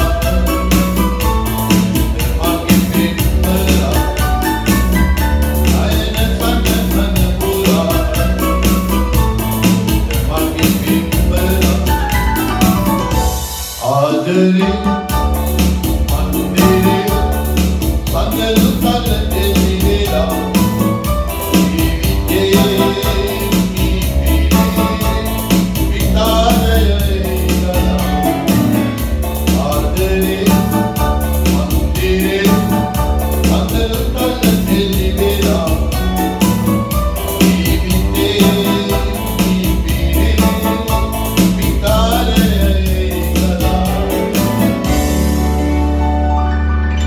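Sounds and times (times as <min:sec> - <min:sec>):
instrumental accompaniment with beat: 0:00.0 - 0:47.0.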